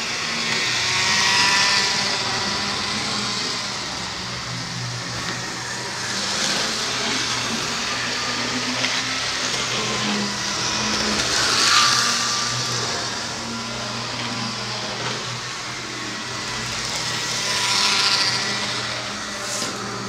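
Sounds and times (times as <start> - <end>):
model train motor whirring: 0.0 - 20.0.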